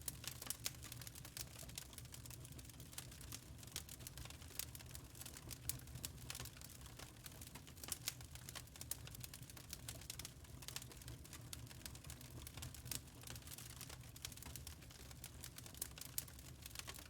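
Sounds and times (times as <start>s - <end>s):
burning logs snapping and popping: 0.1s - 17.0s.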